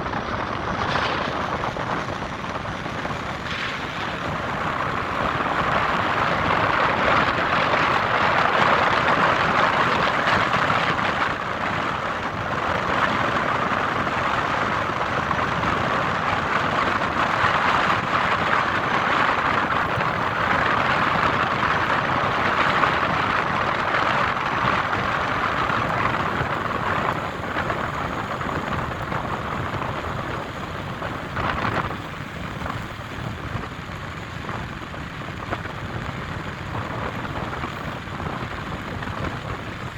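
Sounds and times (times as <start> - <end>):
tyres on slushy road: 0.0 - 39.9.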